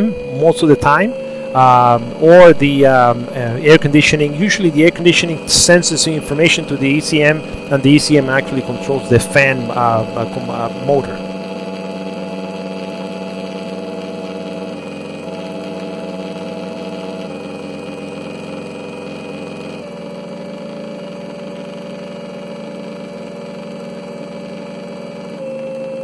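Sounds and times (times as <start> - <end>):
cooling fan motor hum: 0.0 - 26.0.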